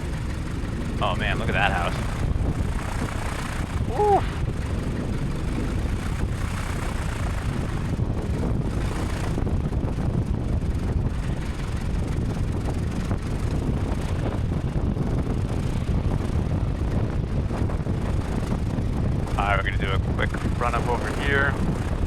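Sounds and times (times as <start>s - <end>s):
small airplane engine running: 0.0s - 22.0s.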